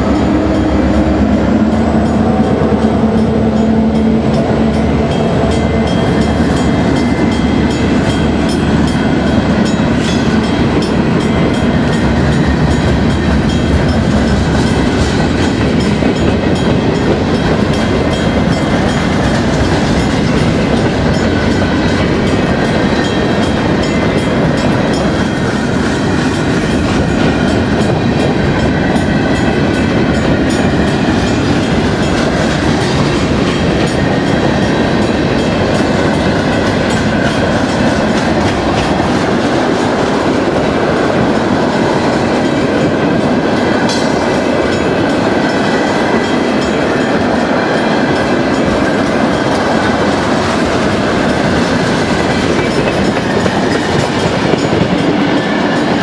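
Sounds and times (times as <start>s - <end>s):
freight train rumbling past: 0.0s - 56.0s
train wheel clicks: 0.1s - 56.0s.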